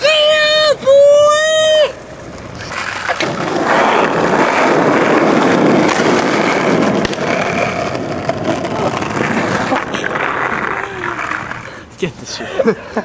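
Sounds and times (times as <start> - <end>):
skateboard wheels rolling on asphalt: 0.0 - 12.8.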